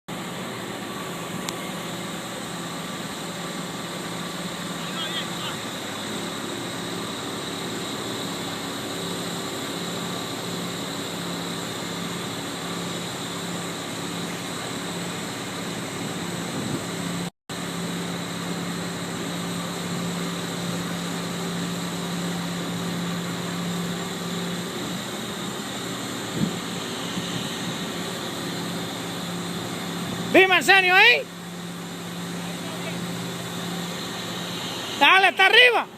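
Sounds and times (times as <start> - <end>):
crane engine humming: 0.1 - 35.9.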